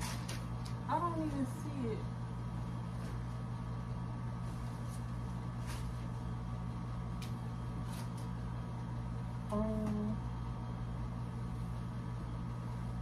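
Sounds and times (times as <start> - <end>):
low electric hum: 0.0 - 13.0.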